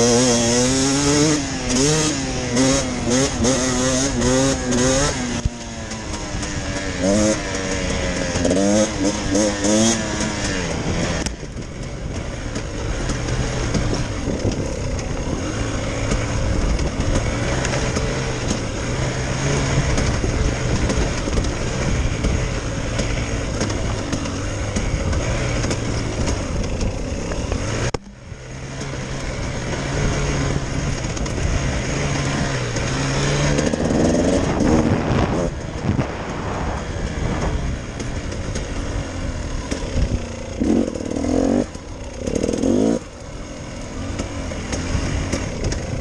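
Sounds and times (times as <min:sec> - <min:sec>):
motorcycle engine running: 0:00.0 - 0:46.0
wind and trail noise: 0:00.0 - 0:46.0.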